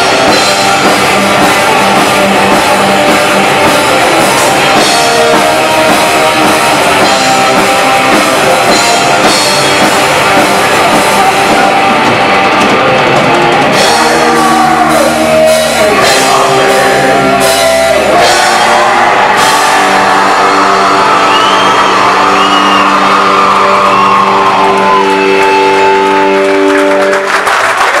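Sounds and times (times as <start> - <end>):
distorted guitars: 0.0 - 27.3
black metal band playing live: 0.0 - 27.5
drum kit: 0.0 - 28.0.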